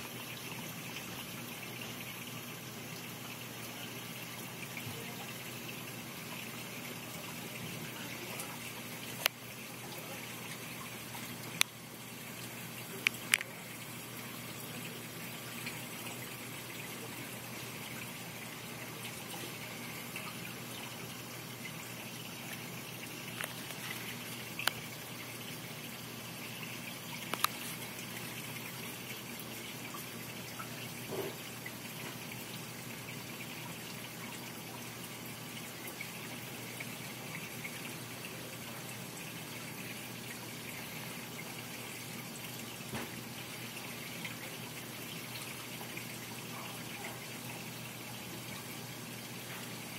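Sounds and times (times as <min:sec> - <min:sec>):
aquarium water circulating: 0:00.0 - 0:49.9.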